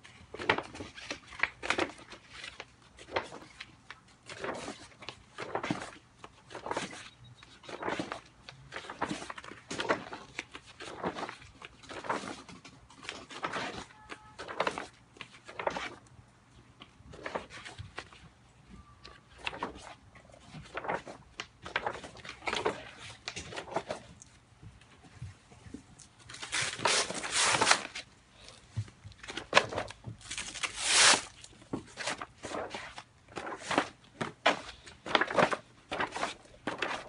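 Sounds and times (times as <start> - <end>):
thick pages flipping: 0.1 - 16.1, 16.8 - 18.3, 19.1 - 24.4, 26.0 - 37.0.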